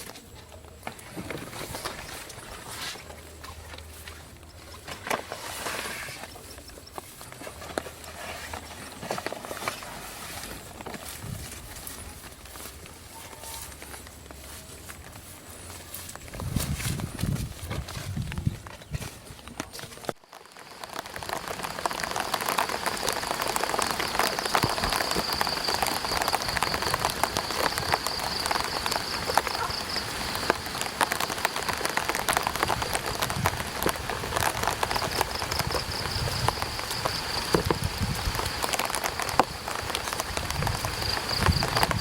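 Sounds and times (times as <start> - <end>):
rain on an umbrella: 6.9 - 42.0.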